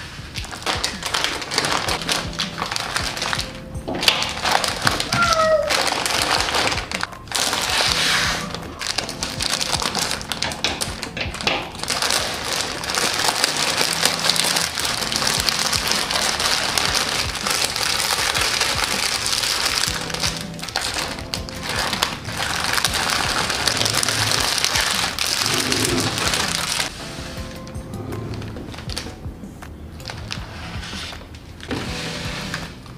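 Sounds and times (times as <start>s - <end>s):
soft background music: 0.0s - 32.9s
plastic wrapper crinkling: 0.4s - 26.9s.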